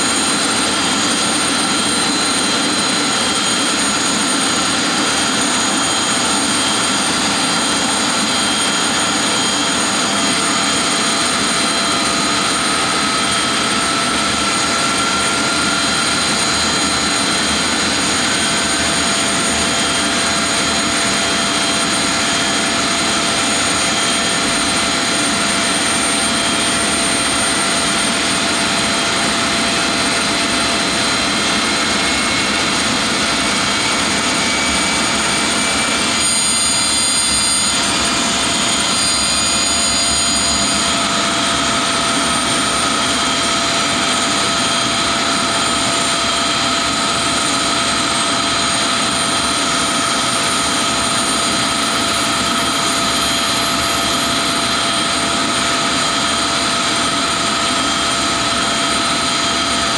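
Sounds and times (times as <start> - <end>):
high jet engine whines: 0.0 - 59.9.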